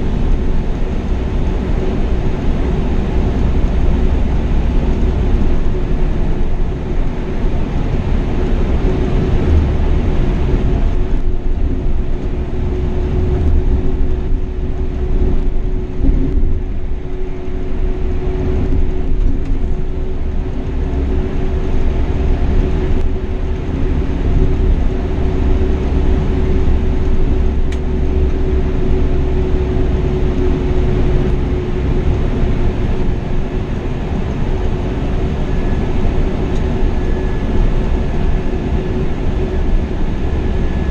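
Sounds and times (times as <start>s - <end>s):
coach engine and road noise: 0.0s - 40.9s
constant hum: 0.0s - 40.9s.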